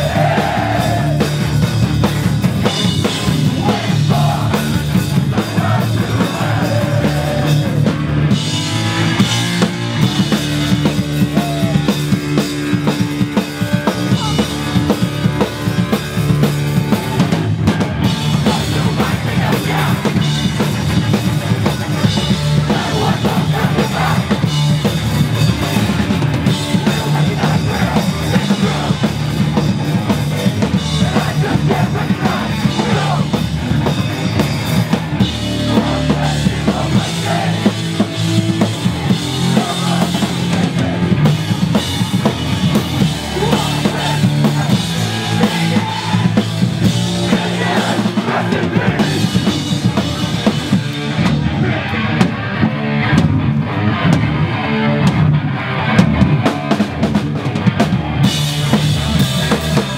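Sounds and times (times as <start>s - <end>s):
hardcore band playing live: 0.0s - 59.9s.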